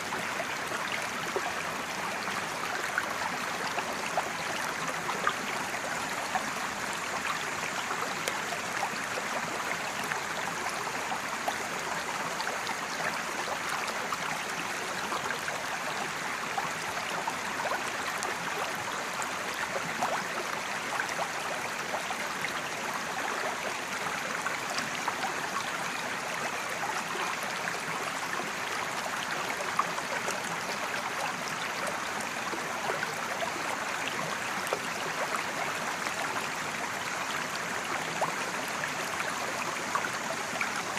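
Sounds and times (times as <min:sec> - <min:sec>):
creek flowing over rocks: 0:00.0 - 0:40.9.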